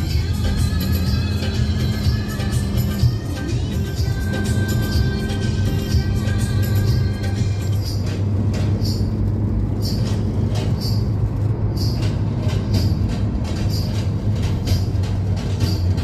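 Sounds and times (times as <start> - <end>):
road and engine rumble inside car: 0.0 - 16.0.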